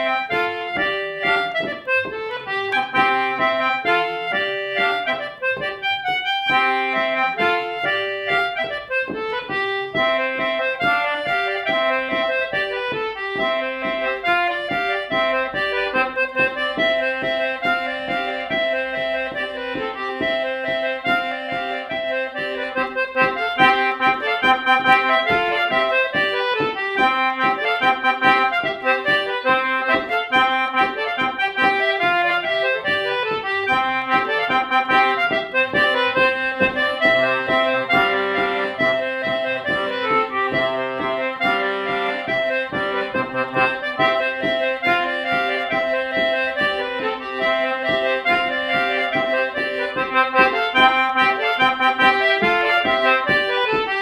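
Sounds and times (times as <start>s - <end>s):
concertina playing folk tune: 0.0s - 54.0s.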